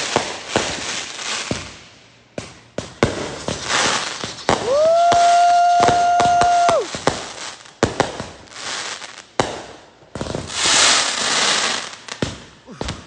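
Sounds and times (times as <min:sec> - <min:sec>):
fireworks hissing crackle: 0:00.0 - 0:13.0
fireworks shells bursting: 0:00.0 - 0:13.0.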